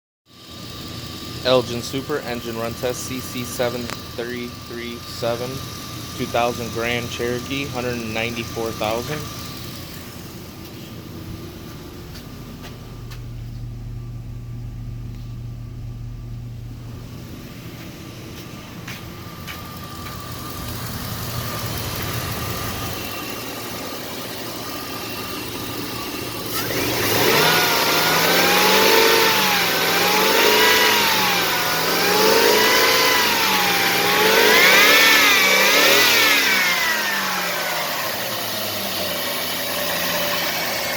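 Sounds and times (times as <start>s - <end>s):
car engine idling and revving: 0.3s - 40.9s.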